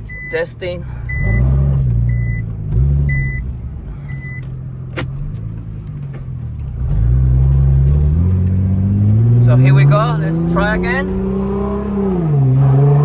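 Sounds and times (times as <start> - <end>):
car engine revving: 1.0 - 13.0.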